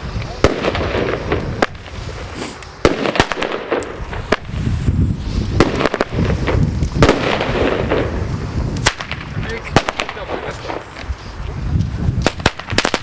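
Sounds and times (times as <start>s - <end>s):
fireworks bangs: 0.0s - 13.0s
fireworks crackling and rumbling: 0.0s - 13.0s.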